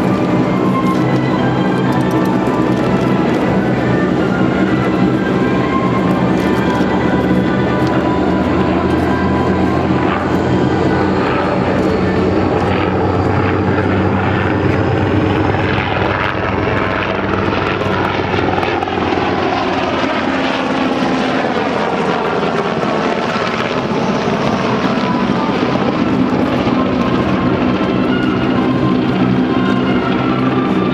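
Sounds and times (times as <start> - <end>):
helicopter flying by: 0.0 - 30.9.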